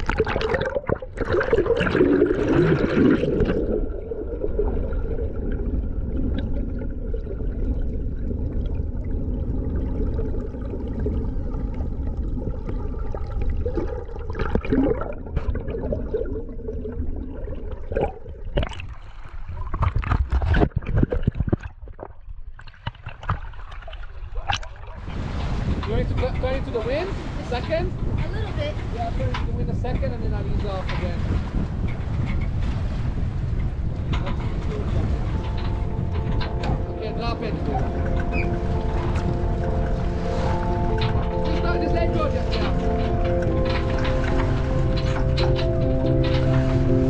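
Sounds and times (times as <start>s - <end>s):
underwater water rush and gurgle: 0.0s - 47.0s
water splashes and knocks: 0.0s - 47.0s.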